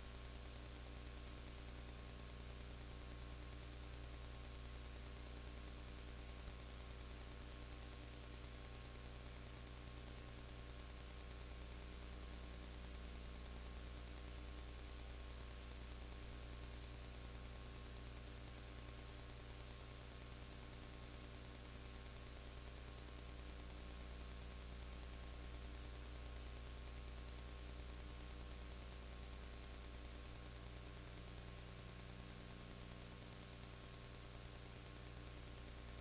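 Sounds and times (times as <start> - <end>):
low electrical hum with hiss: 0.0 - 36.0.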